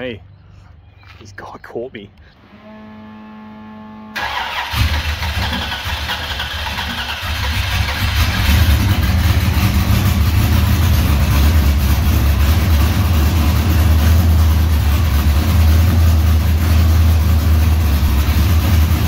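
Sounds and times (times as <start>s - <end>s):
car engine starting and idling: 2.2s - 19.0s.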